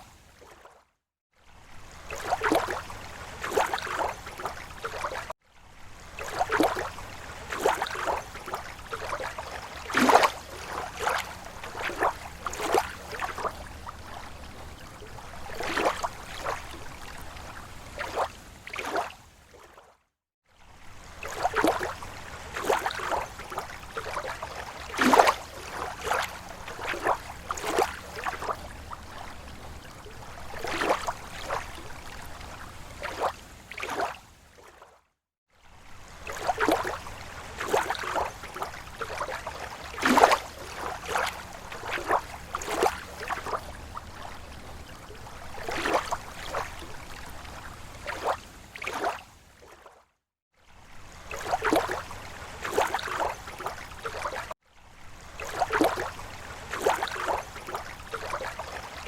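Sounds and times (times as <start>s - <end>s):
small waves lapping on shore: 0.0s - 59.0s.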